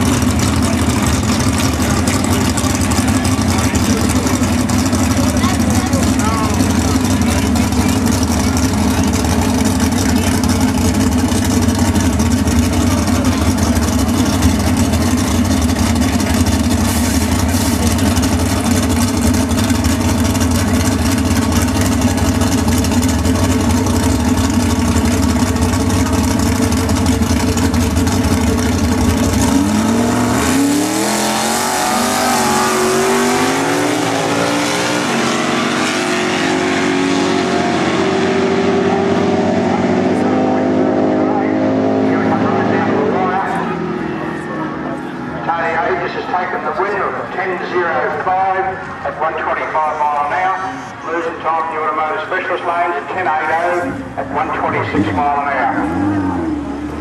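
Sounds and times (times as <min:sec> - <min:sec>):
drag car engines revving: 0:00.0 - 0:57.0.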